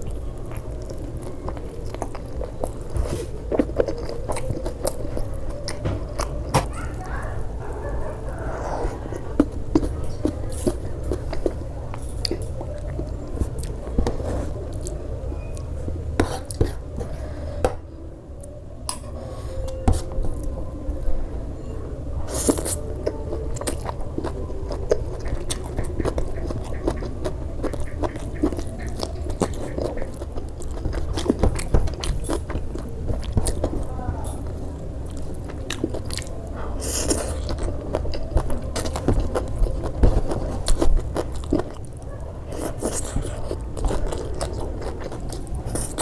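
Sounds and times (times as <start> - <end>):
chewing and biting food: 0.0 - 17.2, 22.3 - 46.0.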